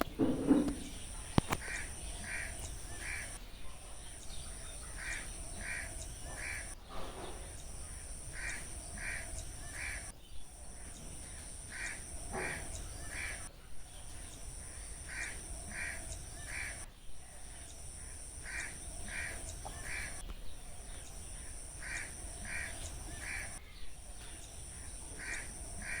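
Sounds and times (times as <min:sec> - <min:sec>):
bird cawing: 0:00.0 - 0:03.4, 0:04.3 - 0:13.5, 0:14.1 - 0:24.0, 0:24.6 - 0:26.0
high-pitched insect drone: 0:00.0 - 0:03.4, 0:04.0 - 0:26.0.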